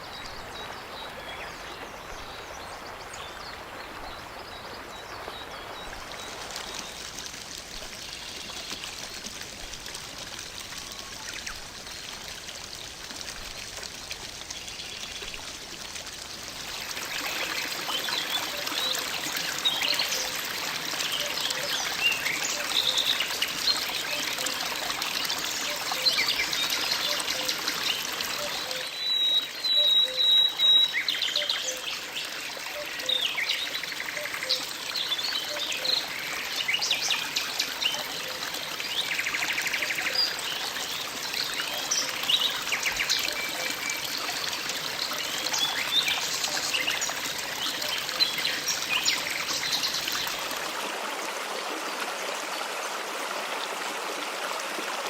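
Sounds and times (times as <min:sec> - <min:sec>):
water flowing in a stream: 0:00.0 - 0:55.0.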